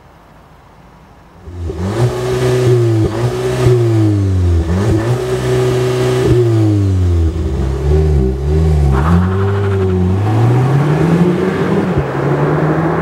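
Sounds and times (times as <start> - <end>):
car engine accelerating: 1.5 - 13.0.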